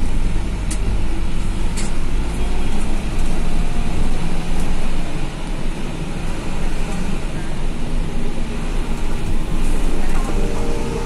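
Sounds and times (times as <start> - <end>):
bus engine rumble and road noise: 0.0 - 11.0.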